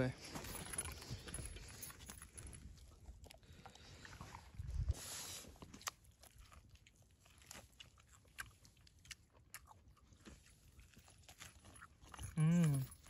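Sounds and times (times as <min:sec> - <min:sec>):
crunching and chewing food: 0:00.2 - 0:13.0.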